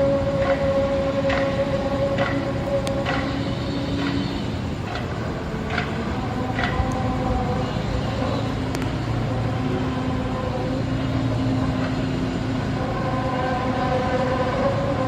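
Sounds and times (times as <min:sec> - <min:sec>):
continuous rumble: 0:00.0 - 0:15.0
low droning hum: 0:00.0 - 0:15.0.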